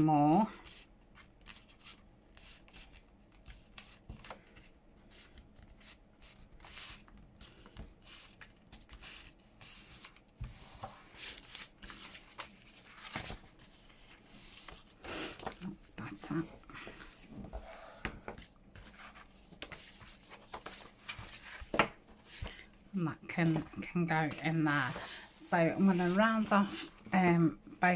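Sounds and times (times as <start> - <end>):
paper rustling: 0.6 - 15.6, 16.3 - 27.1.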